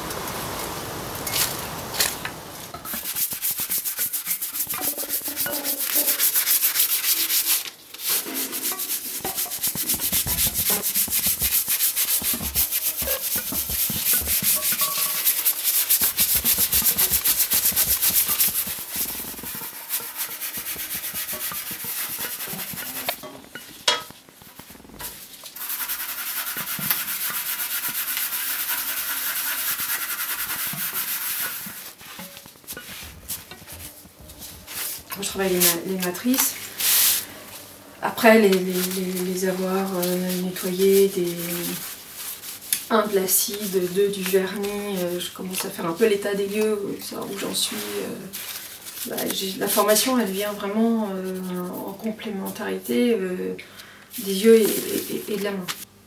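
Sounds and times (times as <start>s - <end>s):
brush scrubbing metal plate: 2.8s - 24.1s, 25.0s - 37.2s, 38.2s - 53.0s.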